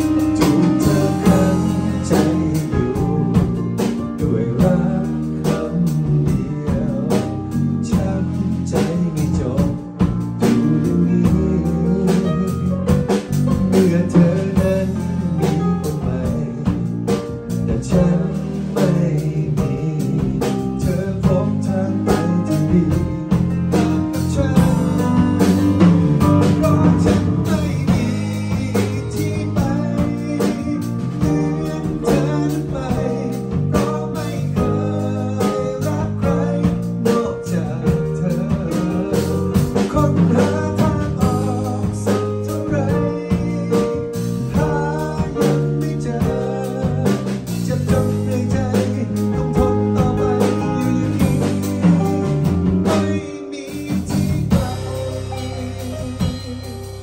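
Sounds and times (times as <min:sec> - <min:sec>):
drum kit: 0:00.0 - 0:57.0
electric bass: 0:00.0 - 0:57.0
keyboard: 0:00.0 - 0:57.0
man singing into a microphone: 0:00.0 - 0:57.0.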